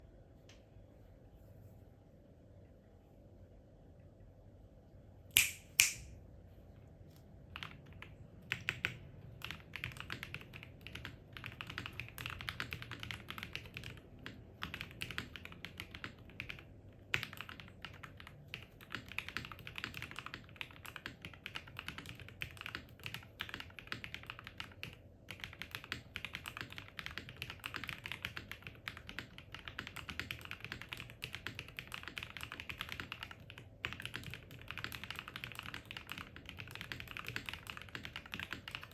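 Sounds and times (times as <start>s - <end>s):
mechanical keyboard typing: 7.5s - 38.9s.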